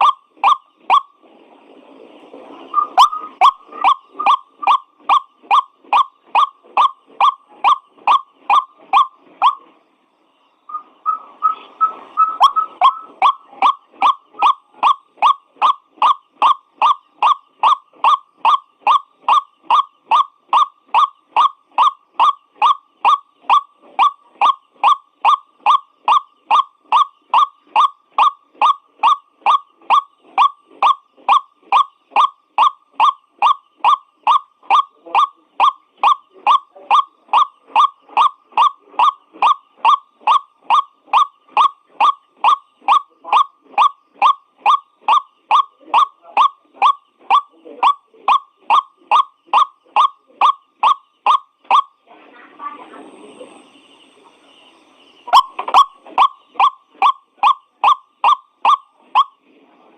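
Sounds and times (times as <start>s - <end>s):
waterhen calling: 0.0s - 1.2s, 2.7s - 9.7s, 10.7s - 52.0s, 55.2s - 59.4s.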